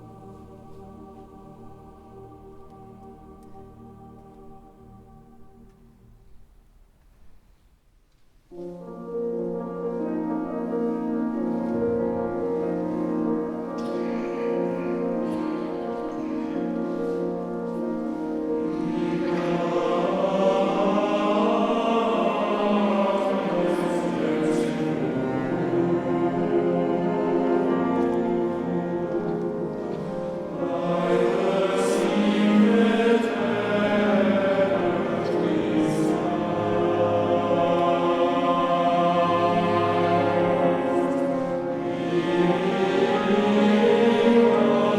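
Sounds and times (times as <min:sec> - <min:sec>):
choir singing: 0:00.0 - 0:06.1, 0:08.6 - 0:44.9.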